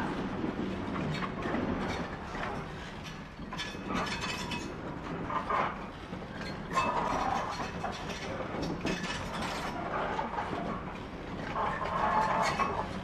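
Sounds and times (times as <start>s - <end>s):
rail wagons rumbling on tracks: 0.0s - 13.0s.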